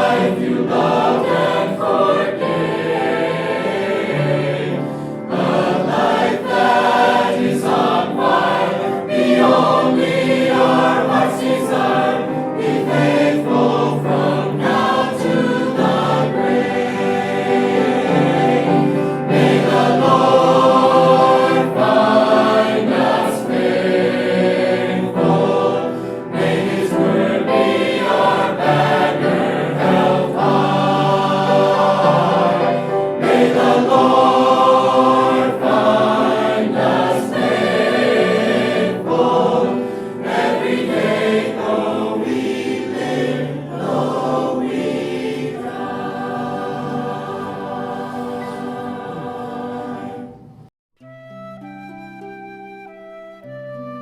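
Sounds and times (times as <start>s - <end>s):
choir singing gospel song: 0.0s - 50.7s.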